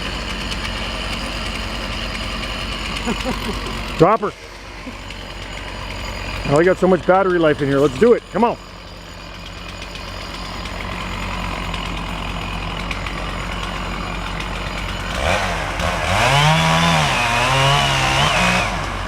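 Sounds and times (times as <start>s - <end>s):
chainsaw cutting: 0.0s - 19.0s
engine hum: 0.0s - 19.0s.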